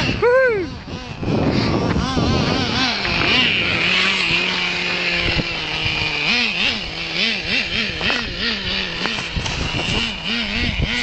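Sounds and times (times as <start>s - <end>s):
small nitro engine revving: 0.0s - 11.0s.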